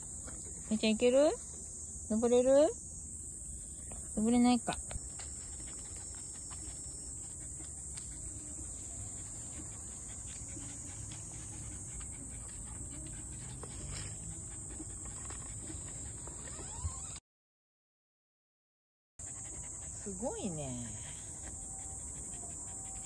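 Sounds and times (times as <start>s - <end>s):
insects buzzing: 0.0s - 17.2s, 19.2s - 23.0s.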